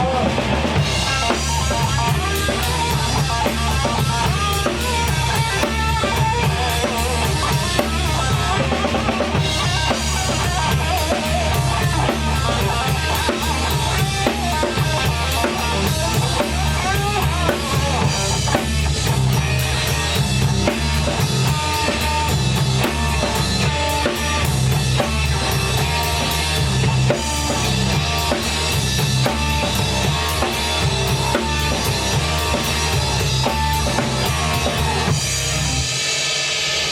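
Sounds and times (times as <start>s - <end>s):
bass drum and snare: 0.0s - 36.9s
rock band playing live: 0.0s - 36.9s.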